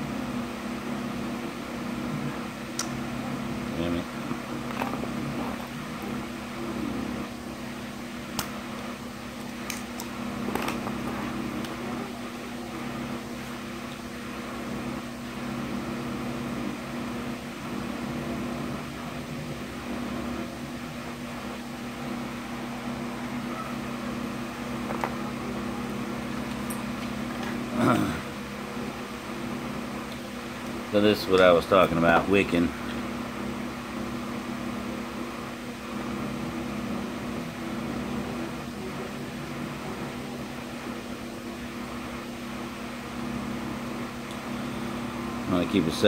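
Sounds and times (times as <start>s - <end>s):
fan motor humming: 0.0s - 46.0s.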